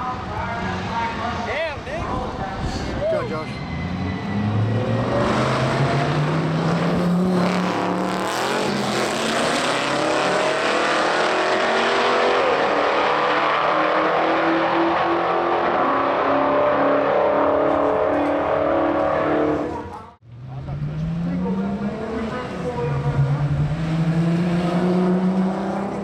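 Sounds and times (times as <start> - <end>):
cars accelerating at full throttle: 3.1 - 26.0.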